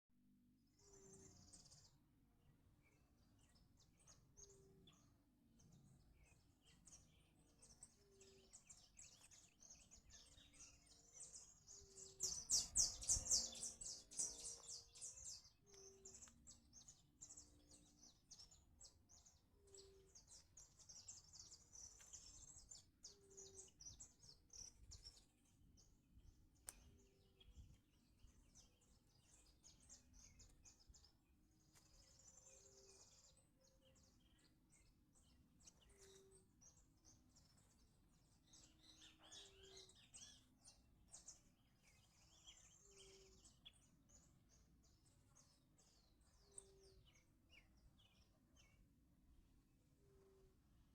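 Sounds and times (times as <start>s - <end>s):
birds chirping and singing: 0.8s - 48.9s.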